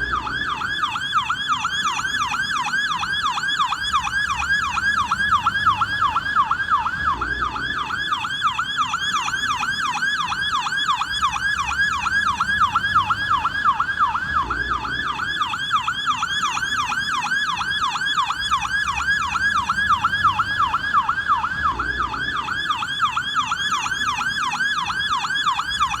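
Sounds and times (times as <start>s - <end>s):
police siren yelping: 0.0s - 26.0s.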